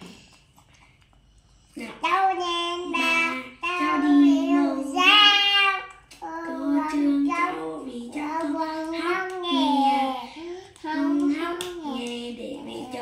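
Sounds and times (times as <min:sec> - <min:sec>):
child singing: 0:02.0 - 0:13.0.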